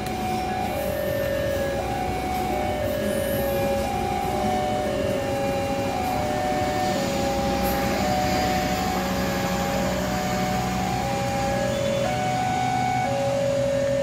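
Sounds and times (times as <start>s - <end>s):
train wheels rolling on rail: 0.0s - 13.2s.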